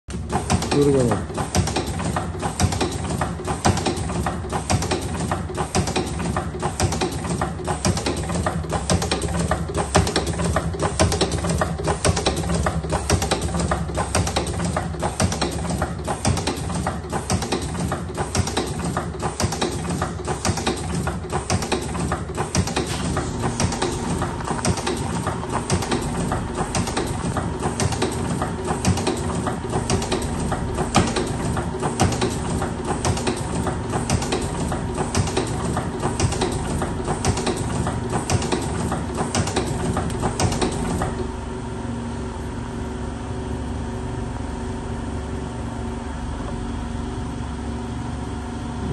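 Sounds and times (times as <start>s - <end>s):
machine mechanism clattering: 0.1s - 41.2s
motor hum: 0.1s - 48.9s.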